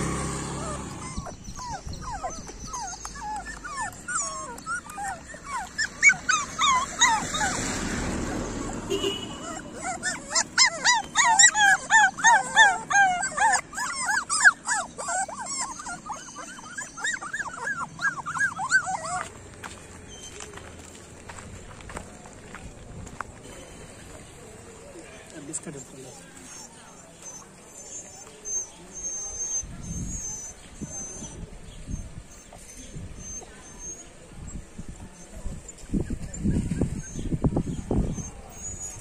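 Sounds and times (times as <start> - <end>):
puppies whimpering and crying: 0.0 - 20.5, 24.8 - 39.0.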